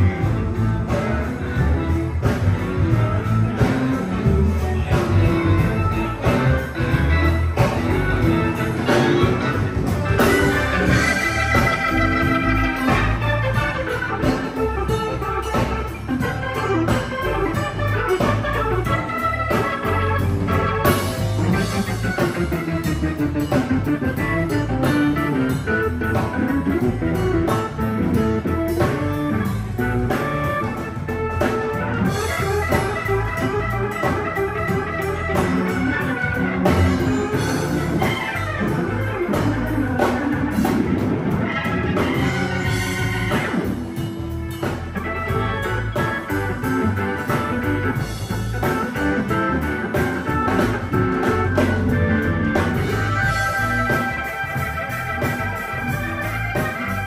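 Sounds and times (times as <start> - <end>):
live band playing: 0.0 - 57.0
organ: 0.0 - 57.0.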